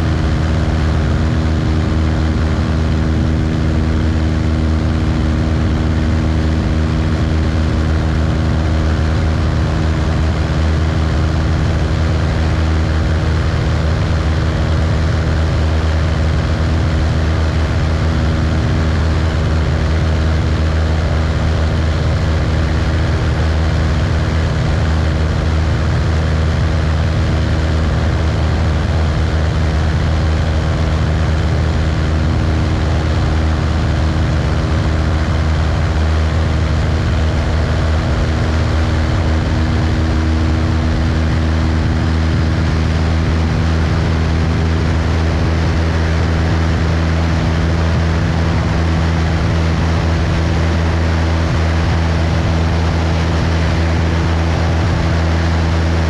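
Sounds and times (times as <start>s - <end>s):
airplane engine droning: 0.0s - 56.0s
rushing air noise: 0.0s - 56.0s.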